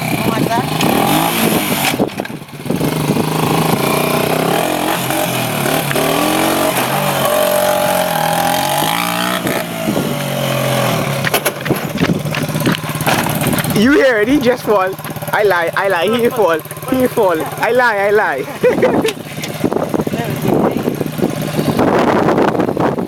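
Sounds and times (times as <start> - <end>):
small motorbike engine revving: 0.0 - 23.0.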